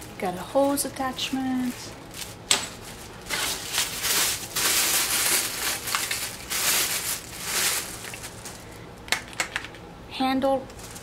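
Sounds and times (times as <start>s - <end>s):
plastic bag crinkling: 0.0s - 9.8s, 10.7s - 11.0s.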